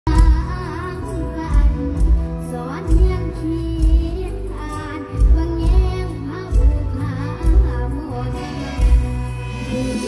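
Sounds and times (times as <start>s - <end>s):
amplified band backing: 0.1s - 10.0s
girl singing into microphone: 0.1s - 10.0s.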